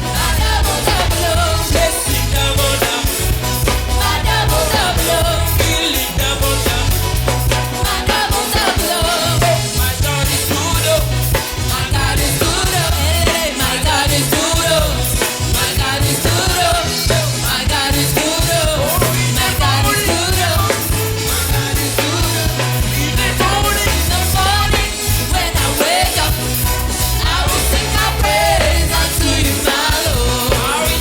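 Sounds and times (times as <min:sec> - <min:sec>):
bass guitar: 0:00.0 - 0:31.0
drums: 0:00.0 - 0:31.0
lead vocal singing: 0:00.0 - 0:31.0.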